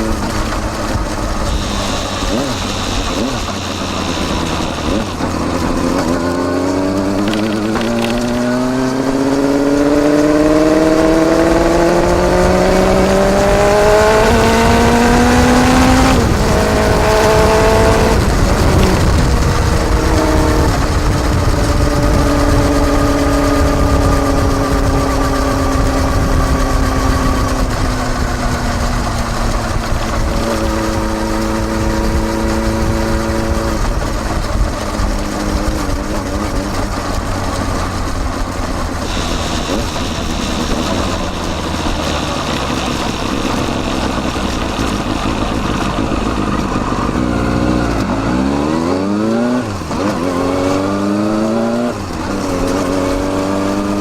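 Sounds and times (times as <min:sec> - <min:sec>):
motorcycle exhaust accelerating: 0:00.0 - 0:54.0.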